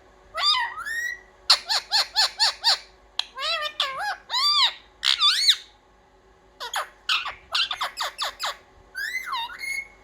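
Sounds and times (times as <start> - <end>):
parrot calling: 0.3 - 5.8, 6.6 - 10.0.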